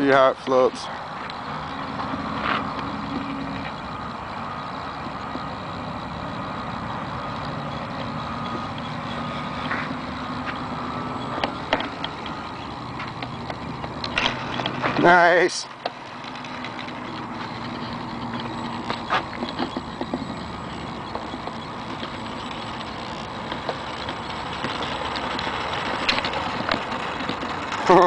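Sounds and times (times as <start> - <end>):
electric motor whine: 0.0 - 28.0
sharp clicks: 0.4 - 28.0.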